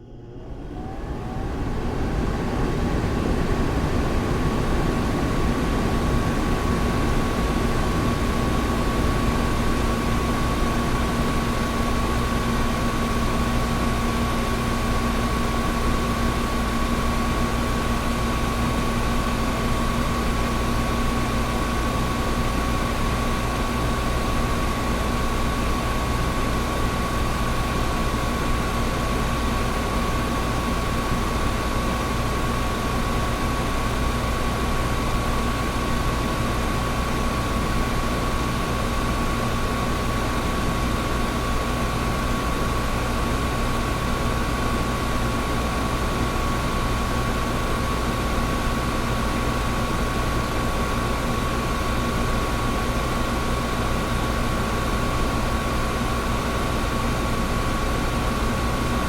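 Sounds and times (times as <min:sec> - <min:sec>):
air conditioner running: 0:00.0 - 0:59.0.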